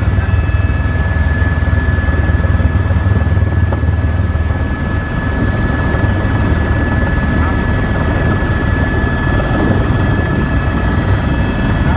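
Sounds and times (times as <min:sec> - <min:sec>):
helicopter rotor and engine drone: 0:00.0 - 0:11.9.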